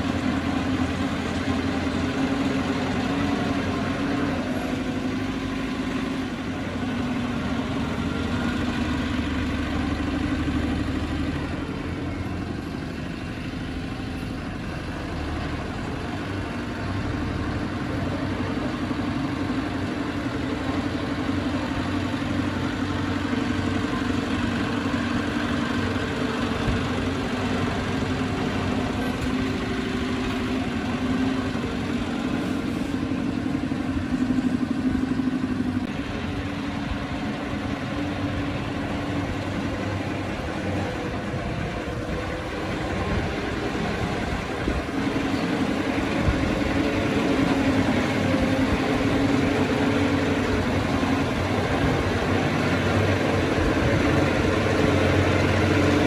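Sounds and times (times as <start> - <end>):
heavy machine diesel engine running: 0.0 - 56.0.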